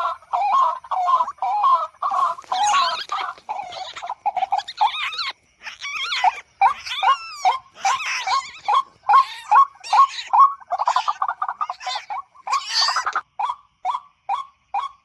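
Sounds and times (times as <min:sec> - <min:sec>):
waterhen calling: 0:00.0 - 0:13.6.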